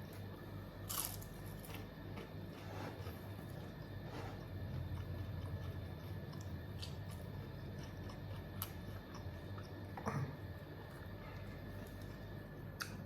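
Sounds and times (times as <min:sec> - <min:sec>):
steady low hum: 0:00.0 - 0:13.0
person chewing food: 0:00.9 - 0:12.2.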